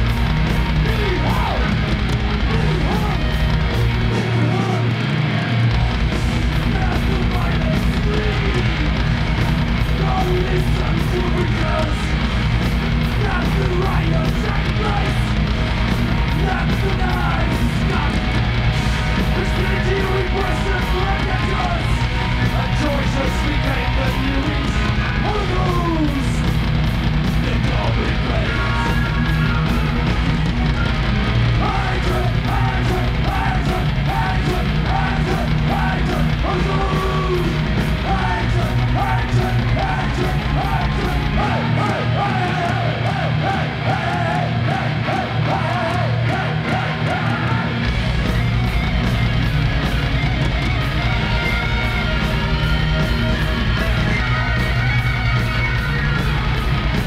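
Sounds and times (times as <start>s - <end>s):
bass guitar: 0.0s - 57.0s
distorted guitar: 0.0s - 57.0s
fast drums: 0.0s - 57.0s.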